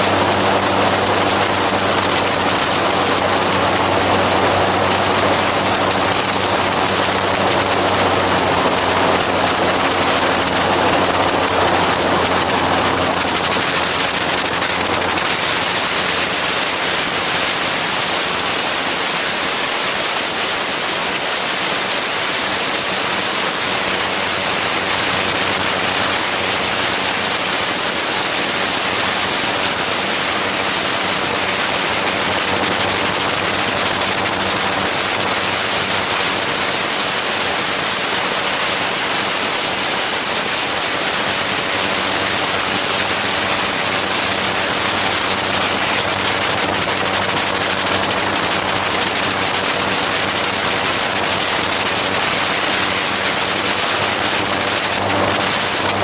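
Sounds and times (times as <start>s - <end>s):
engine and propeller drone: 0.0s - 56.0s.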